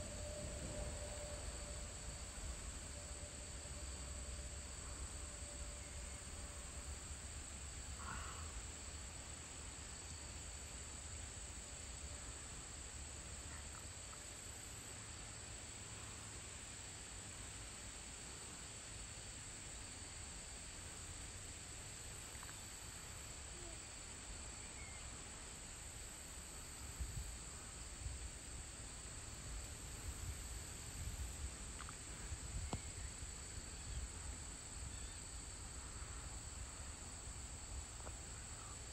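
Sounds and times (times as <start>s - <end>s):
crickets and insects chirping: 0.0s - 38.9s.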